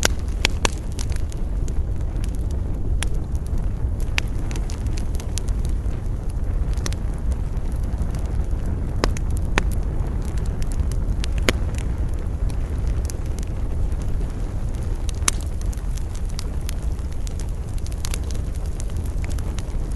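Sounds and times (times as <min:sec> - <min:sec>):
burning wood crackling and popping: 0:00.0 - 0:19.9
campfire burning: 0:00.0 - 0:19.9
wind: 0:00.0 - 0:19.9.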